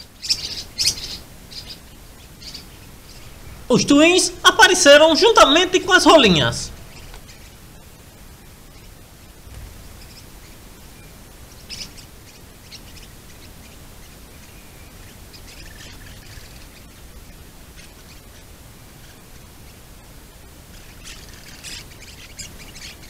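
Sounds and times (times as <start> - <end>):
low microphone hiss: 0.0 - 23.0
small birds chirping: 0.0 - 23.0.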